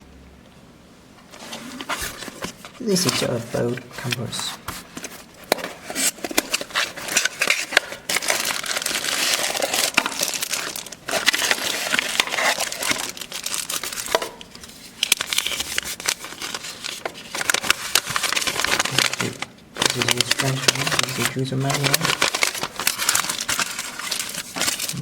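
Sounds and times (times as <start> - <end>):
packaging crinkling: 1.3 - 25.0.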